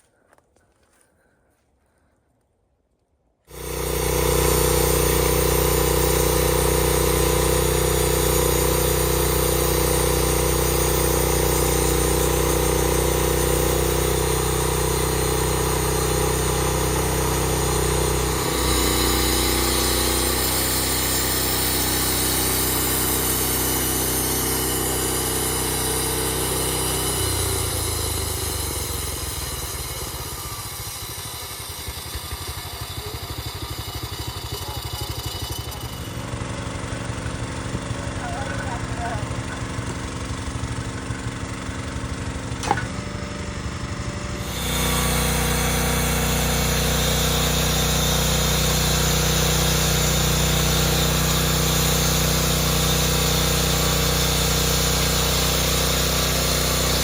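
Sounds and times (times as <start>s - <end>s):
small gasoline engine running: 3.5s - 57.0s.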